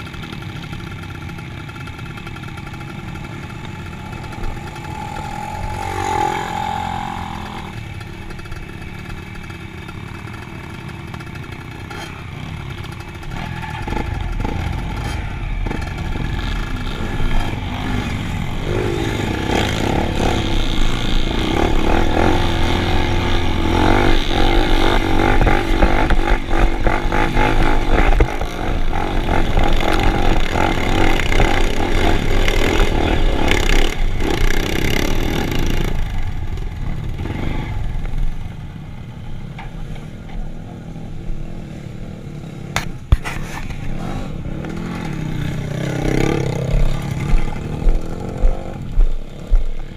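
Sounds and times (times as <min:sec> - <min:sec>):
vehicle engines revving: 0:00.0 - 0:38.7, 0:39.4 - 0:49.9.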